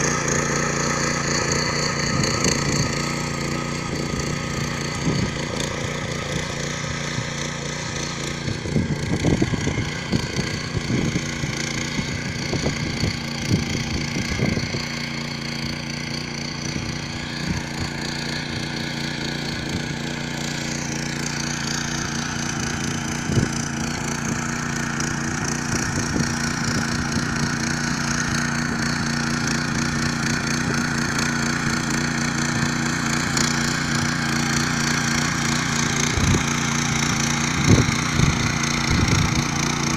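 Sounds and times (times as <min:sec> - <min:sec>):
garden tiller running: 0:00.0 - 0:39.9.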